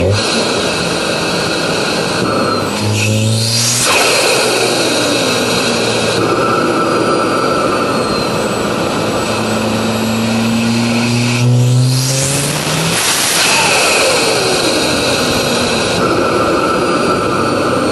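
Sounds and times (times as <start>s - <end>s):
car engine under boost: 0.0s - 17.8s
turbo whistle: 1.6s - 17.4s.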